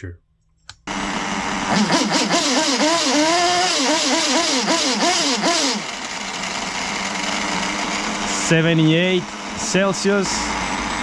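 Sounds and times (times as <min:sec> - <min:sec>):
model engine running: 0:00.9 - 0:11.0.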